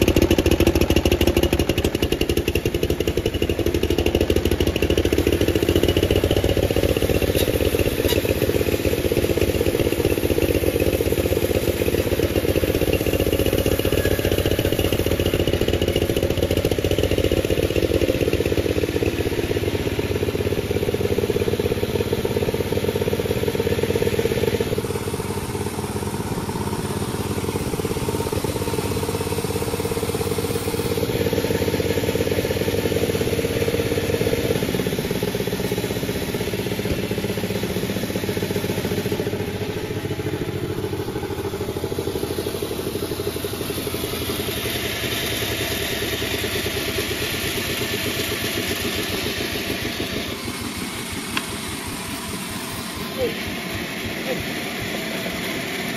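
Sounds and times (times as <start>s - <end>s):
sawmill sawing through log: 0.0s - 55.9s.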